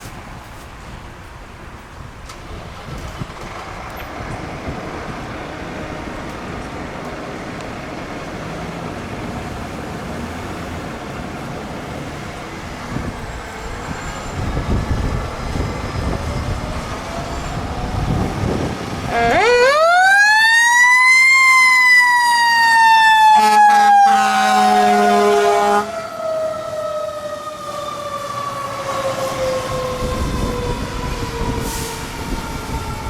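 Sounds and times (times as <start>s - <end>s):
passing vehicles rushing: 0.0s - 33.0s.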